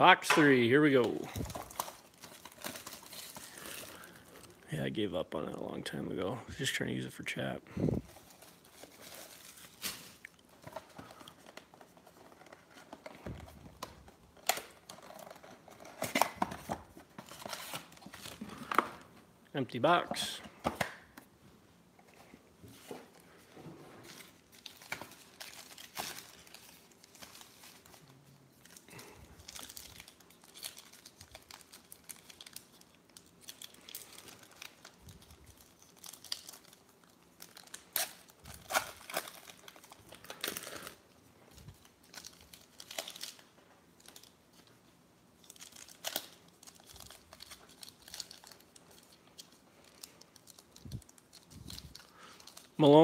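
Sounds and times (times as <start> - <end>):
plastic wrappers crinkling and tearing: 0.0 - 6.0, 6.6 - 19.1, 22.7 - 53.0.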